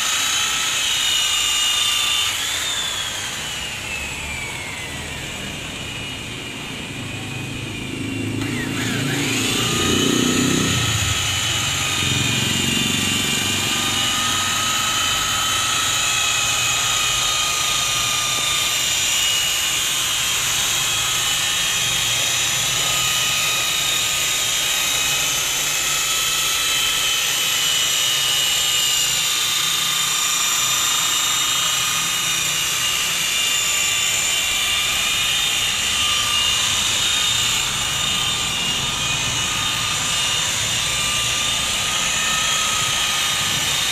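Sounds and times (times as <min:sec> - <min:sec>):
rotary polisher motor whine: 0:00.0 - 0:43.9.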